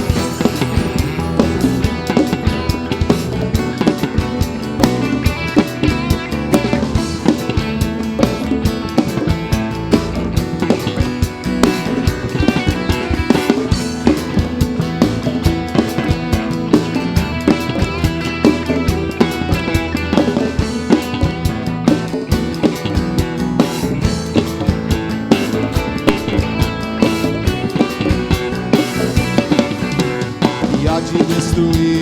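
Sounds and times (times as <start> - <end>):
band playing instrumental: 0.0 - 32.0
drum kit beat: 0.0 - 32.0.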